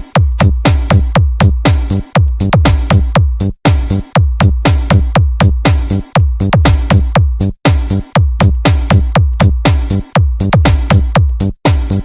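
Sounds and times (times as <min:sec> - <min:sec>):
bass-heavy electronic dance music: 0:00.0 - 0:12.0.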